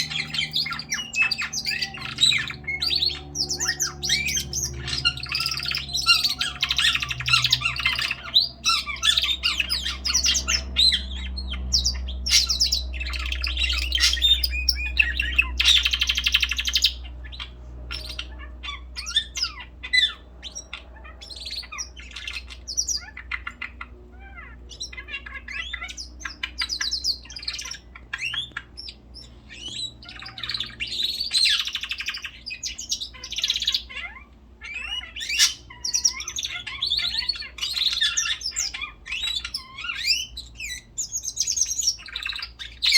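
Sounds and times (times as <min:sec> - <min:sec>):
pet birds chirping and squawking: 0:00.0 - 0:42.9.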